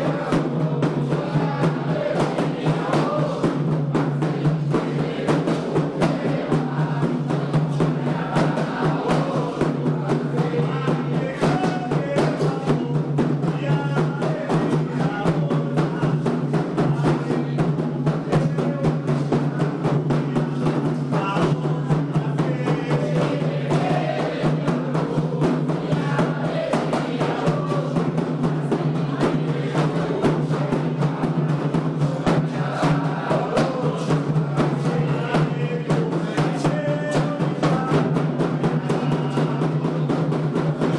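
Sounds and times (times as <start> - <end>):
hand drums beating fast rhythm: 0.0 - 40.9
singing: 0.0 - 40.9.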